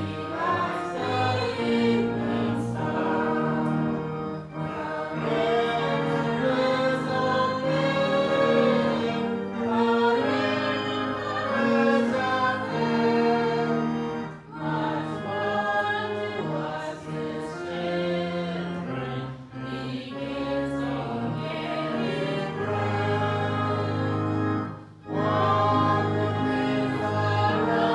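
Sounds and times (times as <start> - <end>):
congregation singing a hymn: 0.0 - 27.9
instrumental accompaniment low chords: 0.0 - 27.9.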